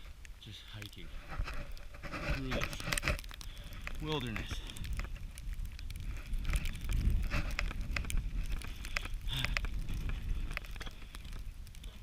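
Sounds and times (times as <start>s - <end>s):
wind buffeting microphone: 0.9s - 12.0s.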